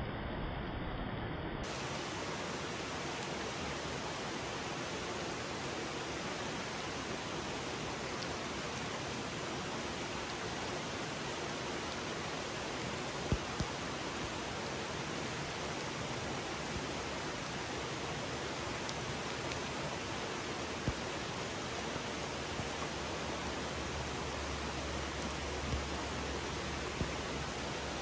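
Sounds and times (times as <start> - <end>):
mountain stream rushing: 1.6 - 28.0.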